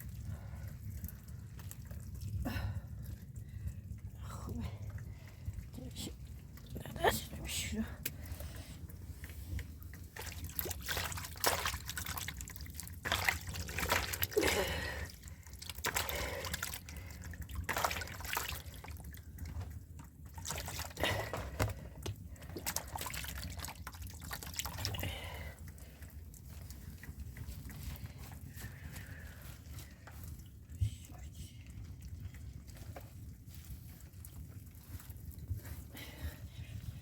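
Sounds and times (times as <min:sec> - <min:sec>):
steady low rumble: 0:00.0 - 0:37.0
water dripping and splashing: 0:00.0 - 0:37.0.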